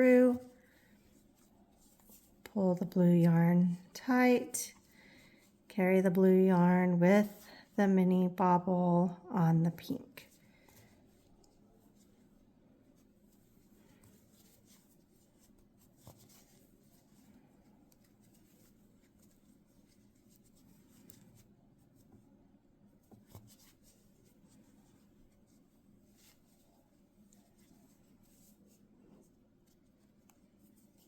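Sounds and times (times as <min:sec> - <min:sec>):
crochet hook rustling yarn: 0:00.0 - 0:31.0
faint steady hum: 0:00.0 - 0:31.0.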